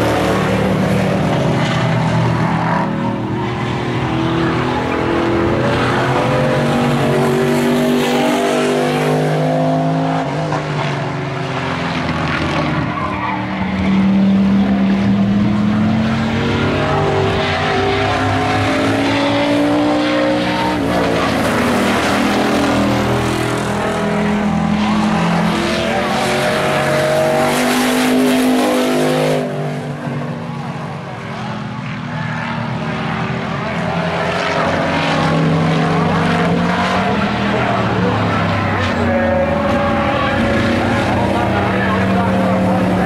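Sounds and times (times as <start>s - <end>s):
race truck engines revving: 0.0s - 43.0s.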